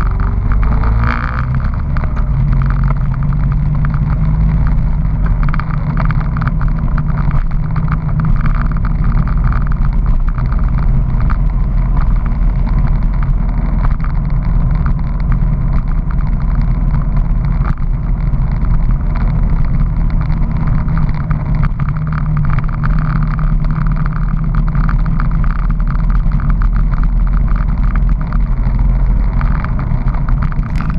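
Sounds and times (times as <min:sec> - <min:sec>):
motorcycle engine cruising: 0:00.0 - 0:30.9
wind and road noise: 0:00.0 - 0:30.9.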